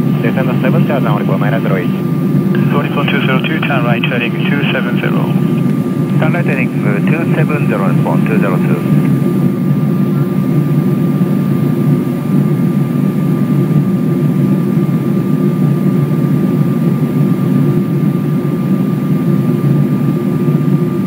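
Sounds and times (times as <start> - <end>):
aircraft cabin engine drone: 0.0 - 21.0.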